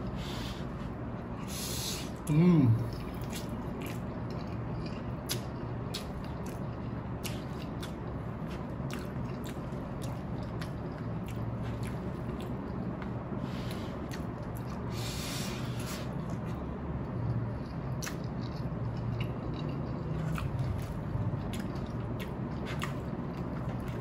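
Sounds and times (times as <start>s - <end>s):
man chewing noodles: 0.0s - 24.0s.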